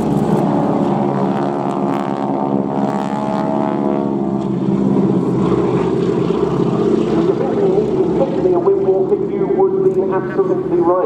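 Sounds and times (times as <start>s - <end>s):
biplane engines droning: 0.0s - 11.0s.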